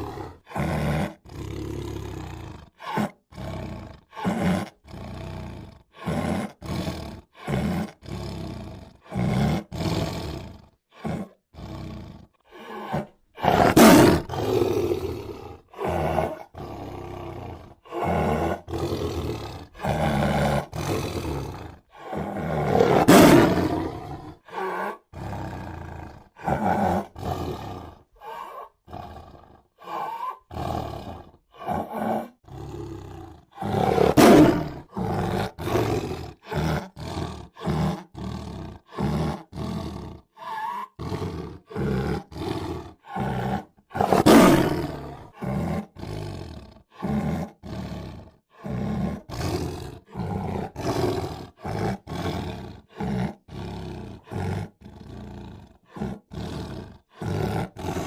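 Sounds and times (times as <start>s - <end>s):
tiger roaring: 0.0s - 58.0s.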